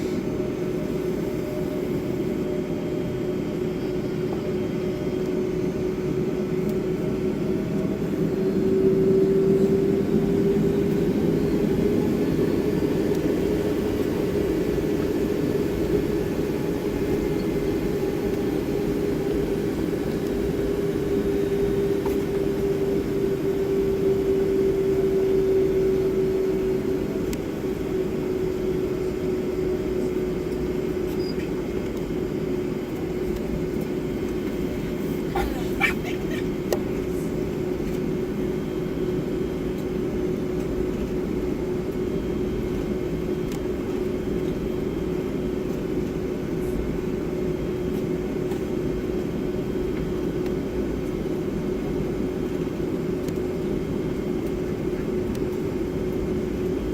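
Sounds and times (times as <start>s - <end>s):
jet engines from inside cabin: 0.0s - 56.9s.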